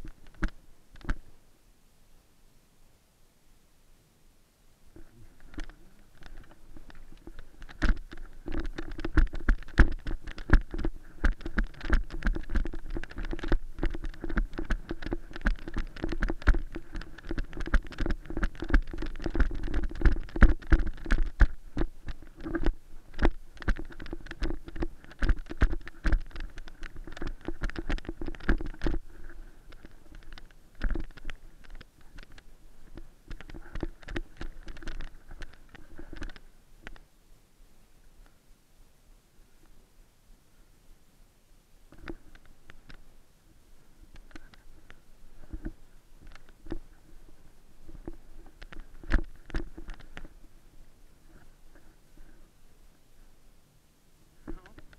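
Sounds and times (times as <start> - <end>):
rustling through dry grass and brush: 4.9 - 37.1, 41.9 - 54.9.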